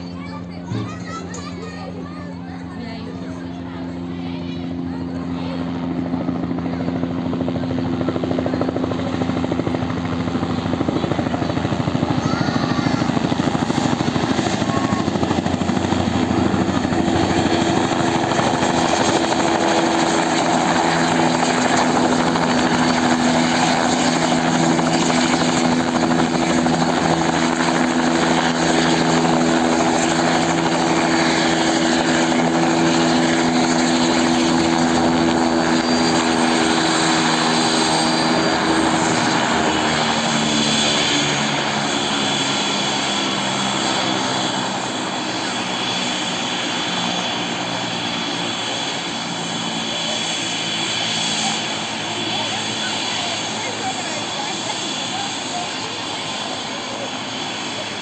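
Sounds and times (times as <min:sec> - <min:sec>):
helicopter rotor chop and engine: 0:00.0 - 0:58.0.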